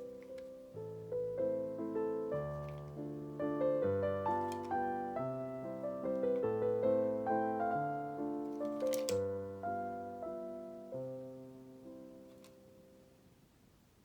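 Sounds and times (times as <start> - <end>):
gentle piano music: 0.0 - 13.6.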